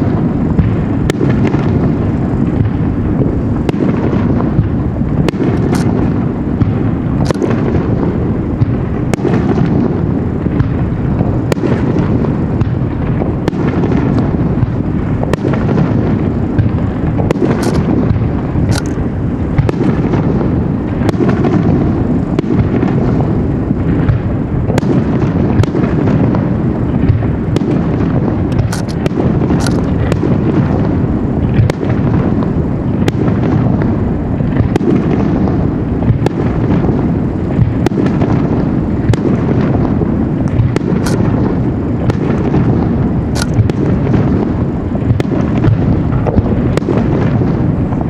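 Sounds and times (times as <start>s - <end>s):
fireworks shell bursts rumbling: 0.0s - 48.0s
sharp crackling pops: 0.0s - 48.0s.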